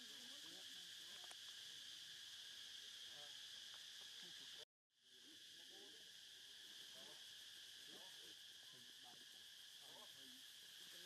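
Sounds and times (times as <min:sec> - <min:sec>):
faint wavering sounds: 0:00.0 - 0:11.0
forest insects droning: 0:00.0 - 0:11.0.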